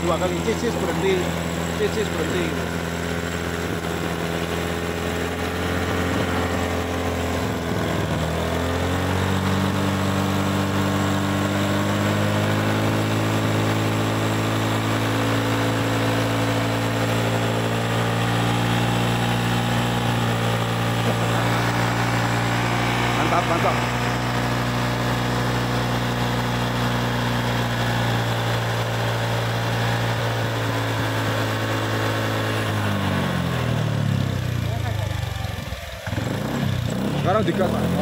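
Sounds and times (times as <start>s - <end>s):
scooter engine fast idle: 0.0s - 31.1s, 32.6s - 38.0s.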